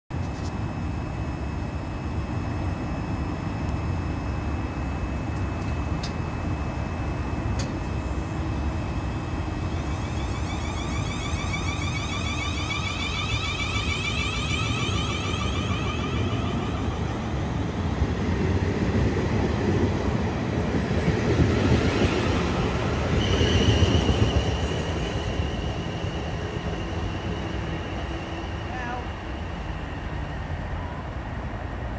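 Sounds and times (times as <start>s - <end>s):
electric train traction whine: 0.3s - 31.9s
train wheels rumbling on rails: 2.0s - 31.9s.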